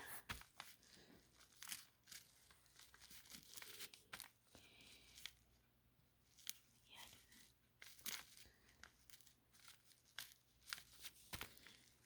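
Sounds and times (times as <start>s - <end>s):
paper rustling and scratching: 0.0s - 5.6s, 6.2s - 12.0s.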